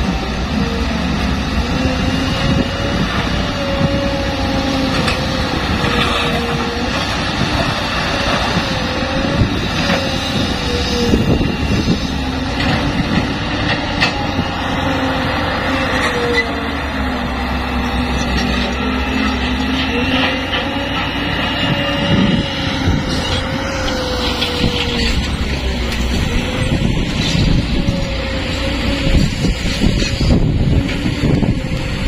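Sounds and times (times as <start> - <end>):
excavator diesel engine rumbling: 0.0 - 32.0
hydraulic whine: 0.0 - 32.0.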